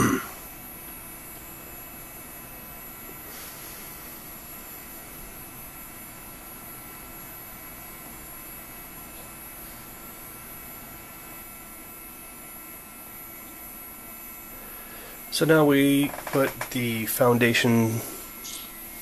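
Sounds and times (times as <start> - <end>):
computer fan and drives whirring: 0.0 - 19.0.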